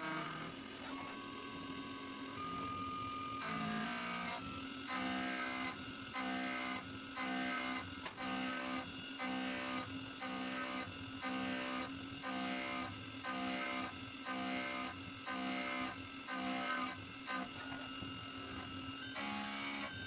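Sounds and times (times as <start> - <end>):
milling cutter cutting steel: 3.4 - 20.0.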